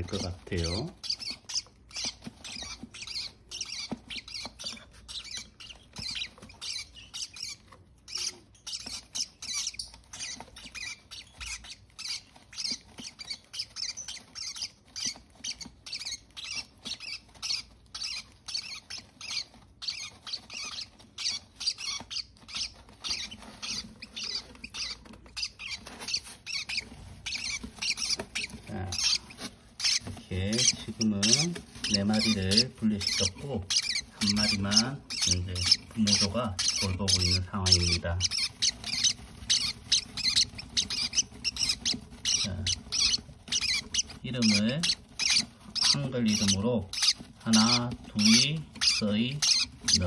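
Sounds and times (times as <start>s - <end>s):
parrot chick squeaking: 0.0s - 50.0s.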